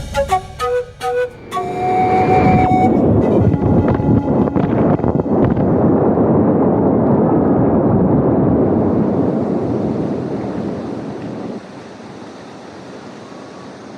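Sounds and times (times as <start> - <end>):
steady rushing noise: 0.0 - 13.9.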